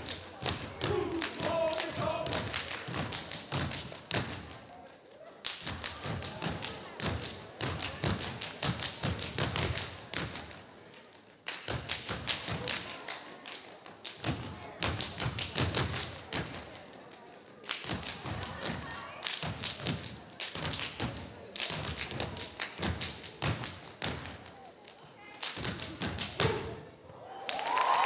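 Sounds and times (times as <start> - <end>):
hands clapping: 0.0 - 26.8, 27.4 - 28.0.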